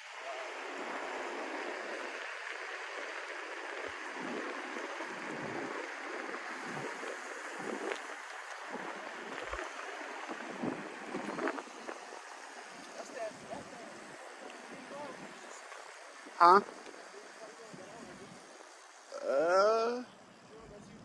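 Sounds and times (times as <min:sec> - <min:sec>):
road noise: 0:00.0 - 0:21.0
wind rushing on microphone: 0:00.1 - 0:17.1.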